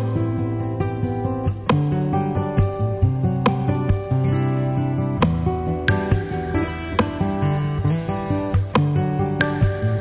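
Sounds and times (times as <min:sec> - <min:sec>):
acoustic guitar strumming: 0:00.0 - 0:10.0
bass line: 0:00.0 - 0:10.0.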